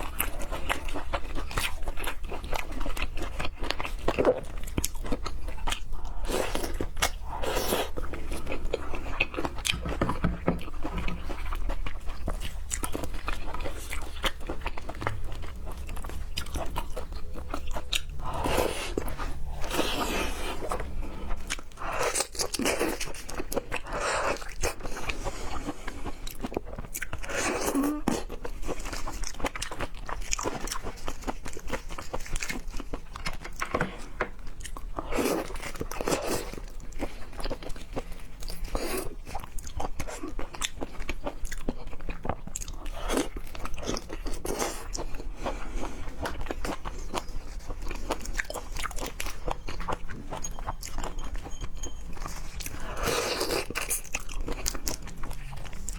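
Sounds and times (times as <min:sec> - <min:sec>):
person chewing seafood: 0:00.0 - 0:55.9.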